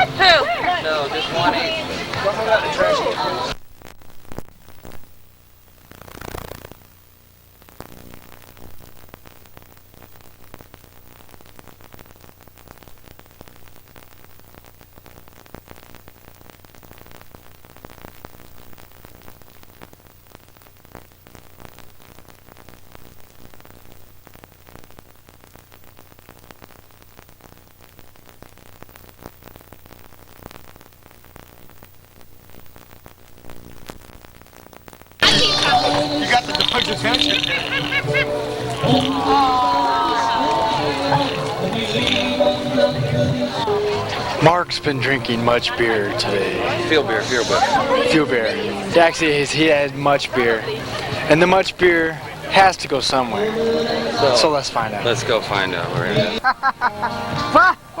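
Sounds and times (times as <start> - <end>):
light crackling: 0.0 - 48.0
faint hiss: 0.0 - 58.0.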